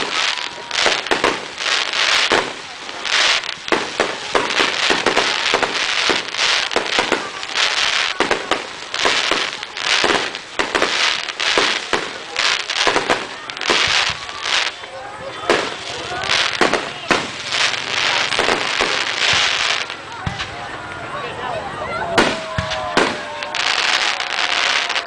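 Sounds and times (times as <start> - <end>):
fireworks hissing bursts: 0.0 - 20.6, 22.1 - 25.0
fireworks cracks and pops: 0.0 - 21.0, 22.1 - 25.0
fireworks crackling: 0.0 - 25.0.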